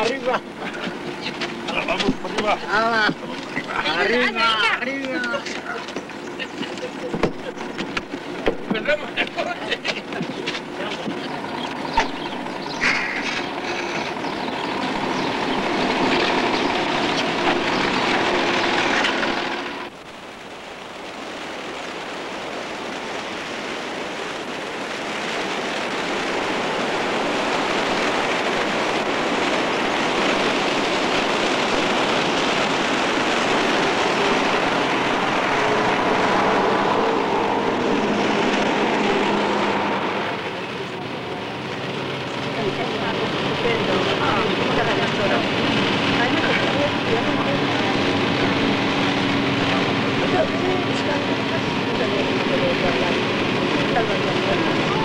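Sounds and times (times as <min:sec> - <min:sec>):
bus engine running: 0:00.0 - 0:55.0
steady drive noise: 0:00.0 - 0:55.0.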